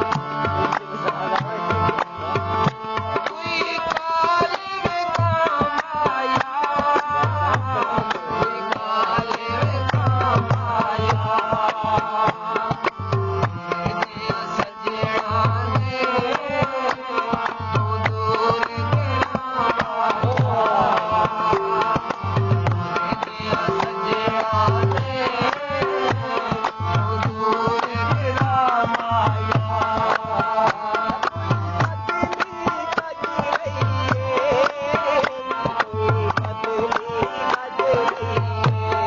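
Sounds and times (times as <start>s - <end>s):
hand drum rhythm: 0.0s - 39.0s.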